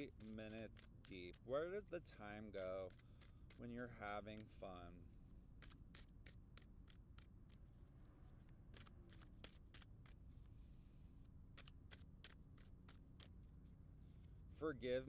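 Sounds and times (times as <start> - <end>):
cards being shuffled: 0.0 - 1.8, 2.4 - 4.8, 5.6 - 14.6.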